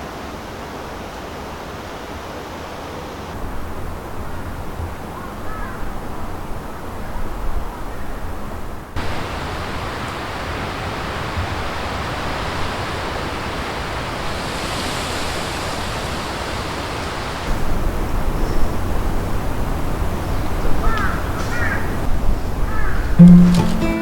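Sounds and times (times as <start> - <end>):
strong wind rushing through trees: 0.0 - 23.2.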